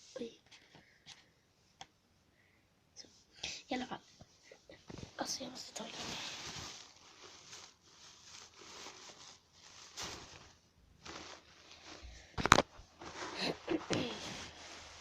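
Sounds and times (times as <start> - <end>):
soft rustling and crinkling: 0.0 - 1.8, 3.0 - 15.0.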